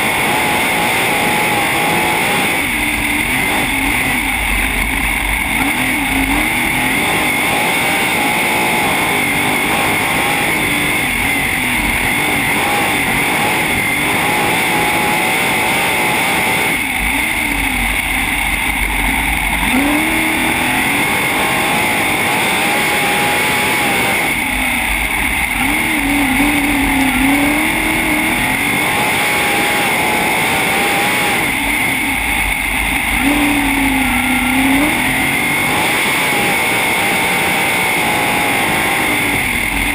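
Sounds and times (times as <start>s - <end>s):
racing car engine: 0.0s - 39.9s.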